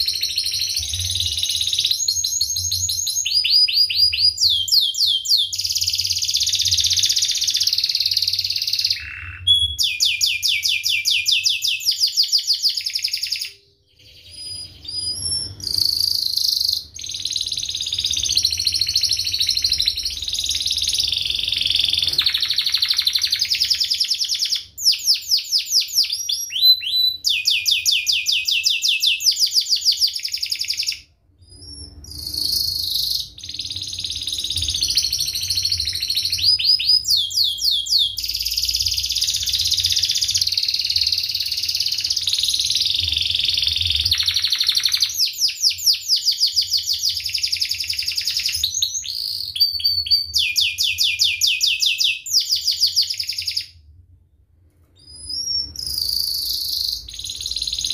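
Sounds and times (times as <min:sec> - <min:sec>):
canary singing trills: 0:00.0 - 0:53.7, 0:55.0 - 0:57.9.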